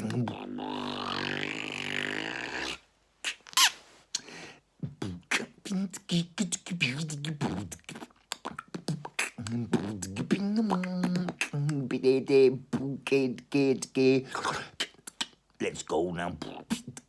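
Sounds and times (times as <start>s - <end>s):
man beatboxing: 0.0s - 3.4s, 4.2s - 17.0s.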